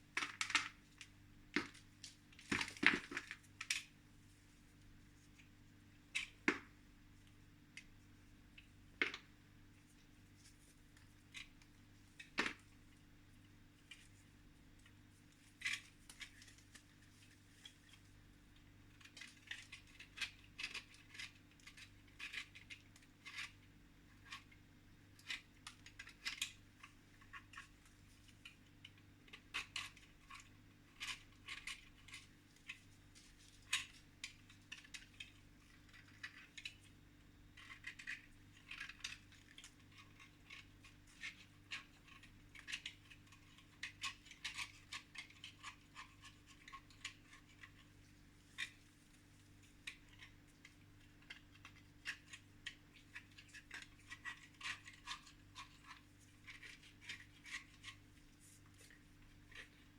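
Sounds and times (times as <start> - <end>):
small objects clicking and scratching: 0.1 - 3.9, 6.1 - 6.7, 8.5 - 18.2, 18.9 - 59.9.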